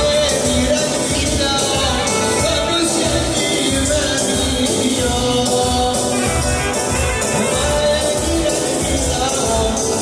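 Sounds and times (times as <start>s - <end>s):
person singing: 0.0s - 10.0s
upbeat dance music: 0.0s - 10.0s.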